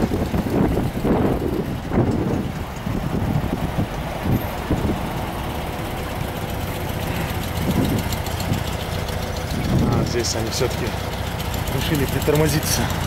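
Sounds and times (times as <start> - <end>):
car engines rumbling past: 0.0 - 13.0.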